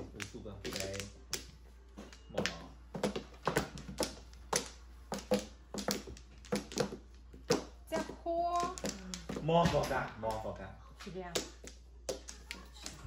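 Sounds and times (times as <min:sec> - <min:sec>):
mahjong tiles clacking: 0:00.0 - 0:10.5, 0:11.3 - 0:13.0.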